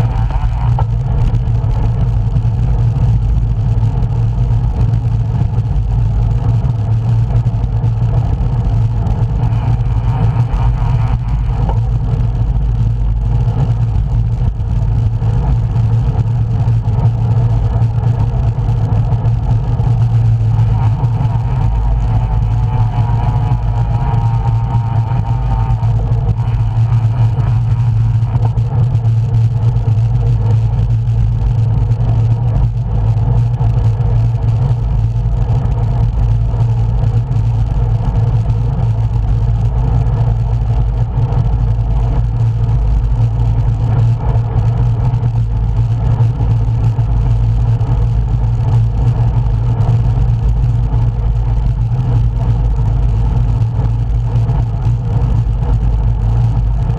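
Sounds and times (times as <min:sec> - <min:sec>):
wind rush: 0:00.0 - 0:47.2
bicycle road noise: 0:00.0 - 0:56.9
low hum: 0:00.0 - 0:56.9.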